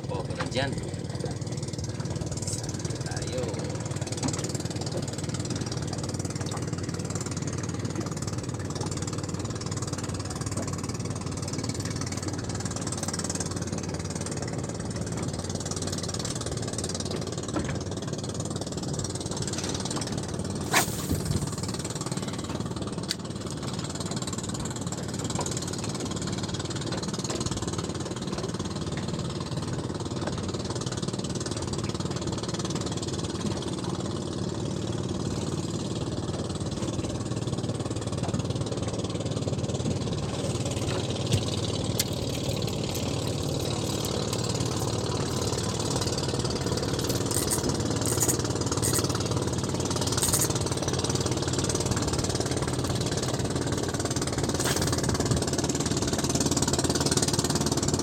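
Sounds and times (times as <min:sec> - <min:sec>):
boat motor idling: 0:00.0 - 0:58.0.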